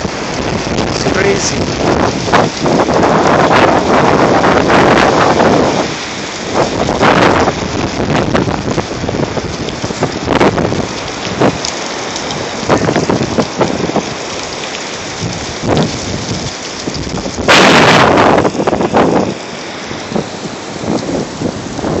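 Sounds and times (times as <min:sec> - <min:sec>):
wind gusting against microphone: 0:00.0 - 0:22.0.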